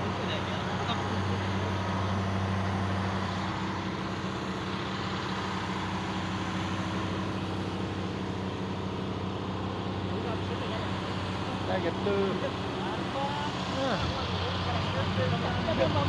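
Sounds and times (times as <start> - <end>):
large engine humming steadily: 0.0 - 16.0.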